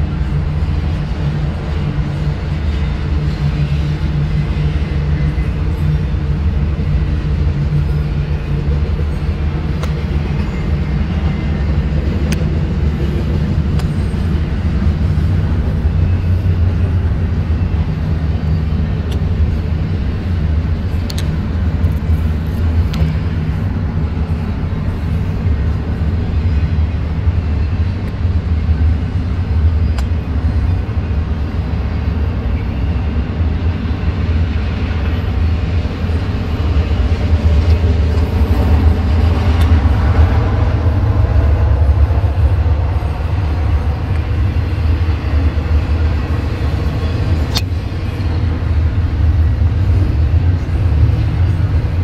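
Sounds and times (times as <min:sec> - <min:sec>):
freight train rumbling past: 0:00.0 - 0:52.0.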